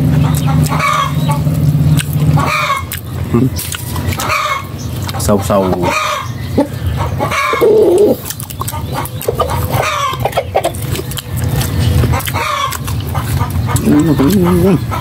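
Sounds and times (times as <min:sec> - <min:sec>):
chickens clucking: 0:00.0 - 0:15.0
people chewing and smacking: 0:00.0 - 0:15.0.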